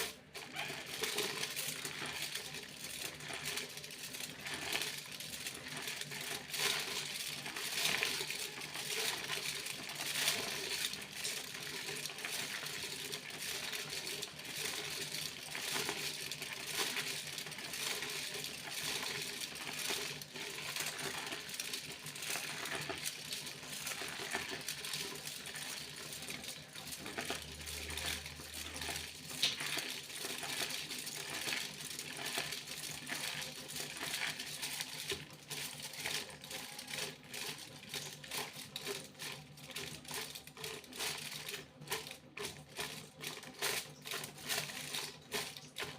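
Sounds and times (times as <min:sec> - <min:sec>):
foil crinkling: 0:00.0 - 0:45.9.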